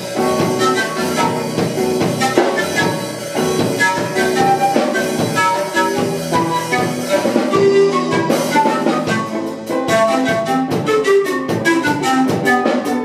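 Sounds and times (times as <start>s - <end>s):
electric guitar: 0.0s - 13.0s
hand-held wind instrument: 0.0s - 13.0s
percussive beat: 0.0s - 13.0s.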